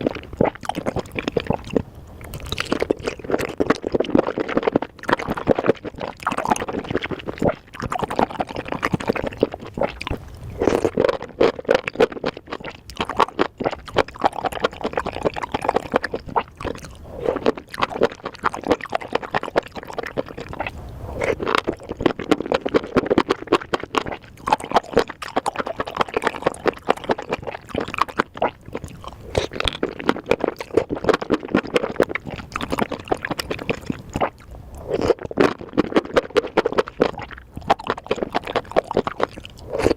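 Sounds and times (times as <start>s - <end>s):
wet chewing and slurping: 0.0s - 39.9s.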